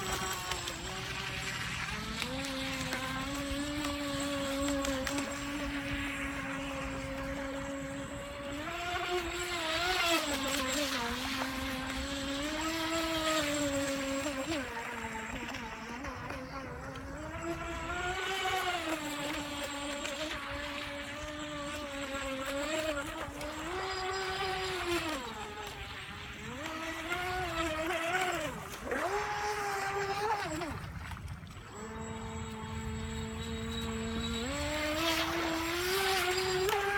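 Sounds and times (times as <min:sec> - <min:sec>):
electric motor whining: 0:00.0 - 0:36.9.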